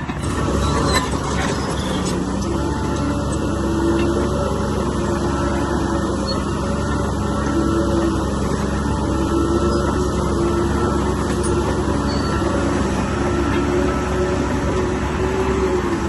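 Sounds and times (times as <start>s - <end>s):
bulldozer diesel engine under load: 0.0s - 16.0s.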